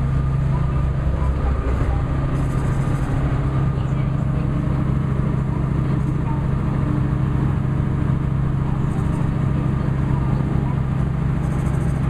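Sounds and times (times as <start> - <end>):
boat engine low hum: 0.0 - 12.0.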